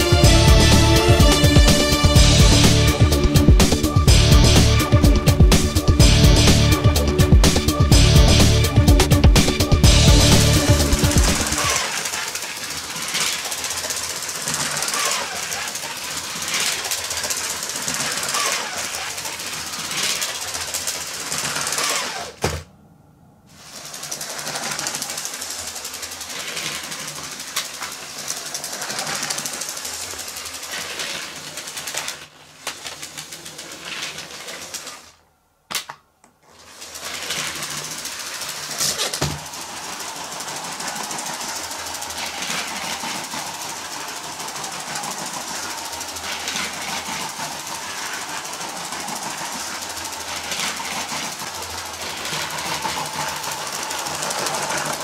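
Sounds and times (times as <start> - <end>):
toy train motor whirring: 0.0 - 22.6, 23.5 - 35.3, 36.4 - 55.0.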